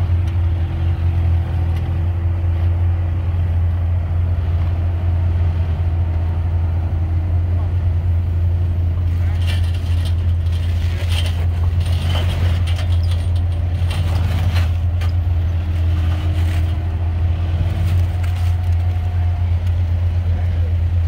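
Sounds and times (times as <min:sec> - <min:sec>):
engine rumbling at low revs: 0:00.0 - 0:21.0.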